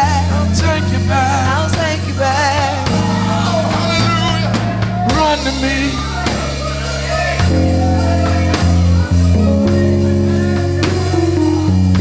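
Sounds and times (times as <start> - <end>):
drum hits: 0.0 - 12.0
heavy bass: 0.0 - 12.0
keyboard chords: 0.0 - 12.0.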